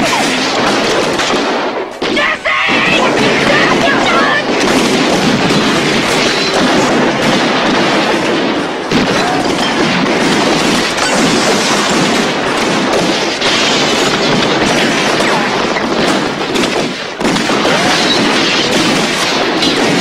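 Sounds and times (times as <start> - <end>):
heavy rifle gunfire: 0.0 - 20.0.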